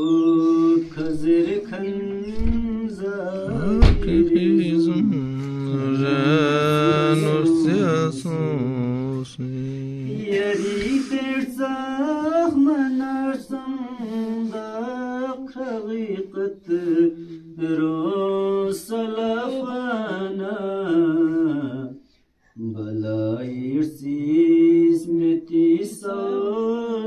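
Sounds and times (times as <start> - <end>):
voices chanting a recitation: 0.0 - 27.0.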